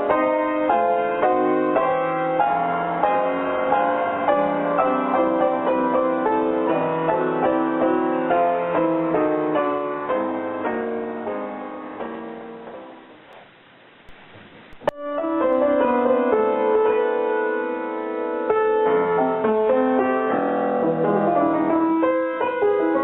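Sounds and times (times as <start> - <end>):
piano music: 0.0 - 13.3, 14.8 - 23.0.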